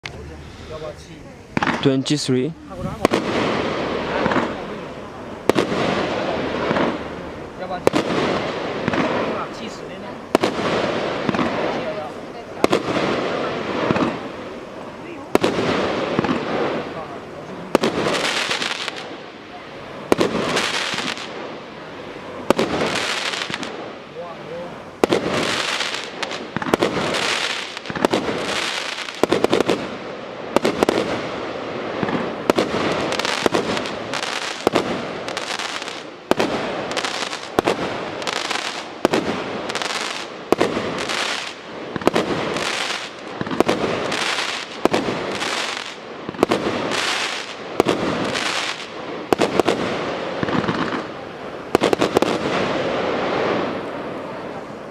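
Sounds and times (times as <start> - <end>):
firework cake shots: 0.0 - 21.6, 22.3 - 54.8.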